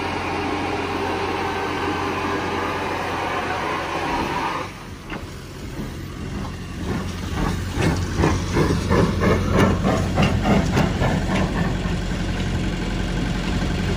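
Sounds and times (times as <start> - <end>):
hissing steam: 0.0 - 12.3
steam engine chuffing: 0.0 - 13.9.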